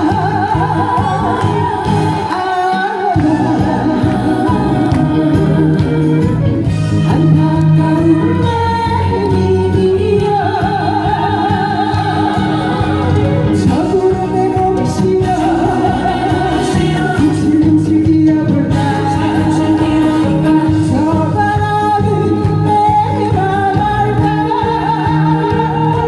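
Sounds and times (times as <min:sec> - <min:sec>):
person singing with vibrato: 0:00.0 - 0:26.0
upbeat accompanying music: 0:00.0 - 0:26.0.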